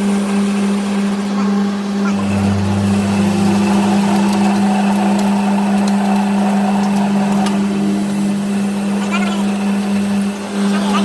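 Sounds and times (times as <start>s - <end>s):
machine motor humming: 0.1s - 11.0s.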